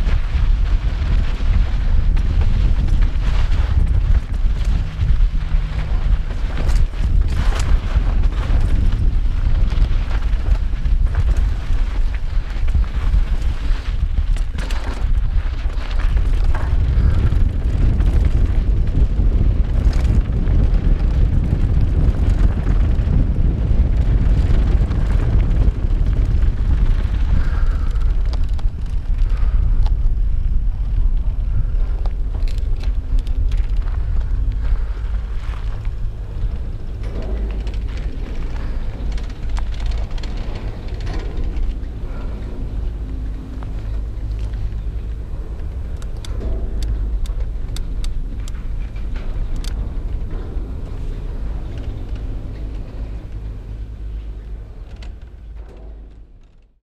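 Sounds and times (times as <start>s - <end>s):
bike knocks and rattles: 0.0s - 56.8s
wind buffeting microphone: 0.0s - 56.8s.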